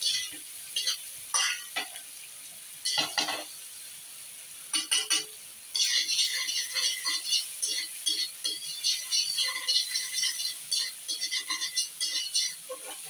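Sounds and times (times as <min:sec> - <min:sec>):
metal utensil clinking in frying pan: 0:00.0 - 0:02.0, 0:02.8 - 0:03.6, 0:04.7 - 0:13.0.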